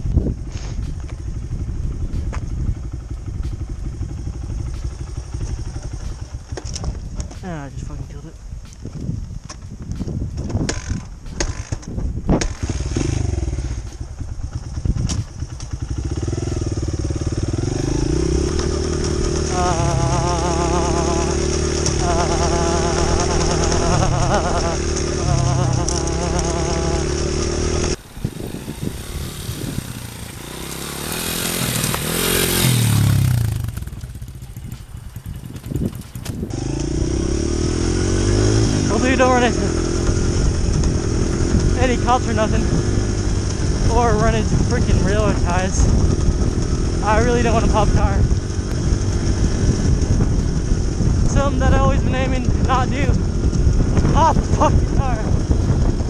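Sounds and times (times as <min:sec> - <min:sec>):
dirt bike passing by: 0:00.0 - 0:07.7, 0:09.0 - 0:56.0
dirt bike engine running: 0:00.0 - 0:56.0.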